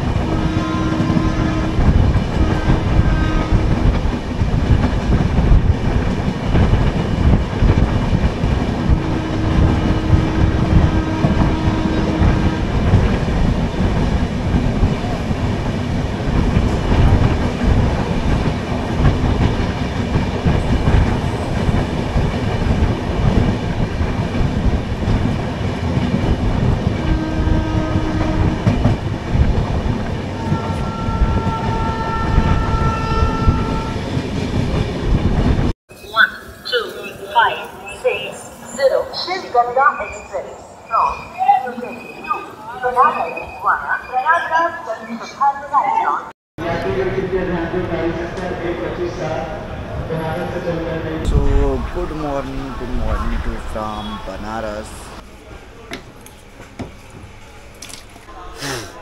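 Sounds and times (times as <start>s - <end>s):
train rumbling: 0.0s - 35.7s, 36.8s - 59.0s.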